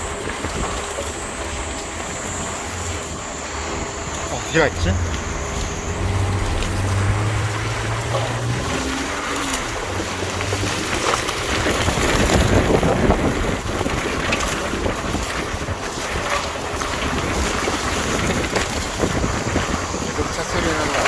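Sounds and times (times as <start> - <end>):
low engine hum: 0.0 - 21.0
wind buffeting microphone: 0.0 - 21.0.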